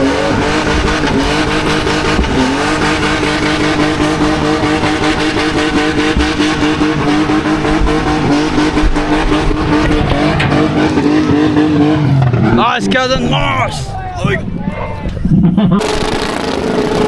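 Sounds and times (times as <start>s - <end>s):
car engine revving high: 0.0s - 14.5s, 15.3s - 17.0s.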